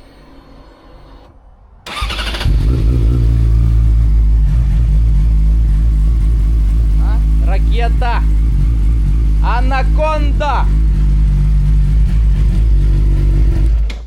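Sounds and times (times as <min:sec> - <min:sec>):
motorcycle engine starting and running: 0:01.9 - 0:14.0.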